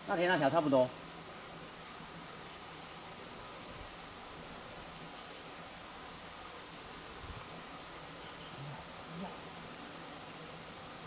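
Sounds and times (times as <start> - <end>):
insects buzzing: 0.0 - 11.0
steady hiss: 0.0 - 11.0.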